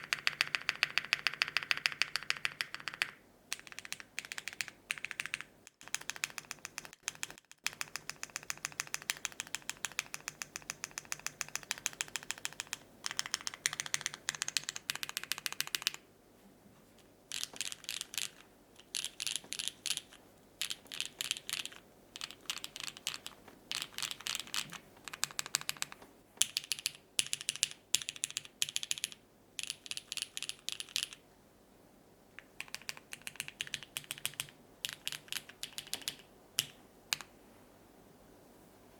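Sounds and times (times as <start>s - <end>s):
typing on a mechanical keyboard: 0.0s - 16.0s, 17.3s - 31.2s, 32.4s - 37.3s.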